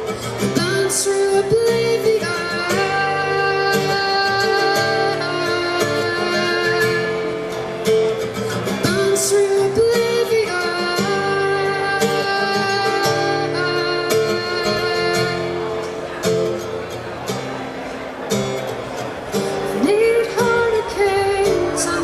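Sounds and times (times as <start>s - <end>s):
guitar accompaniment: 0.0s - 22.0s.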